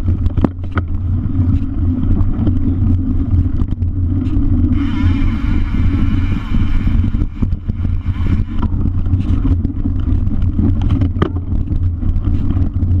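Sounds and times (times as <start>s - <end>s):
mountain bike rattling over trail: 0.0s - 13.0s
wind rushing over microphone: 0.0s - 13.0s.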